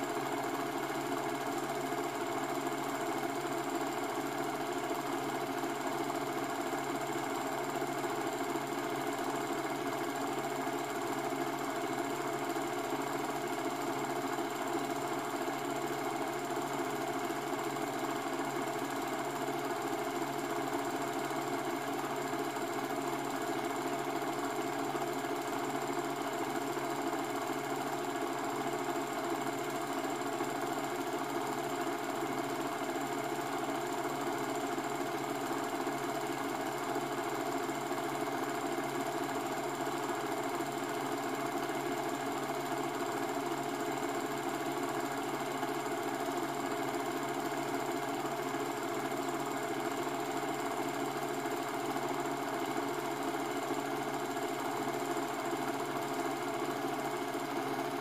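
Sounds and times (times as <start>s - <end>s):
film projector whirring and clattering: 0.0s - 58.0s.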